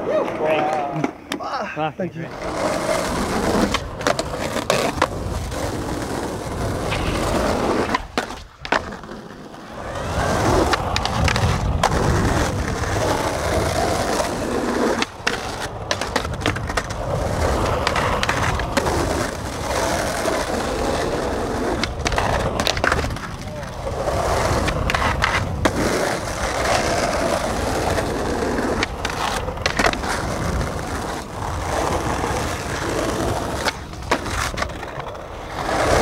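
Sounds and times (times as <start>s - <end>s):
skateboard wheels rolling on asphalt: 0.0s - 36.0s
skateboard trucks grinding: 2.2s - 36.0s
skateboard clacks: 2.3s - 36.0s.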